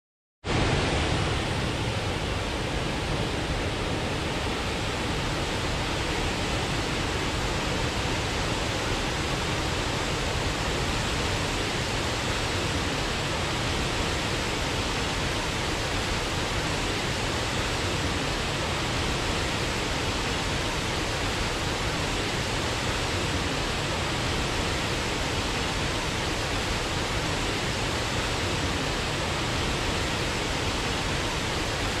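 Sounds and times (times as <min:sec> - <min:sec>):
waterfall rushing: 0:00.5 - 0:32.0.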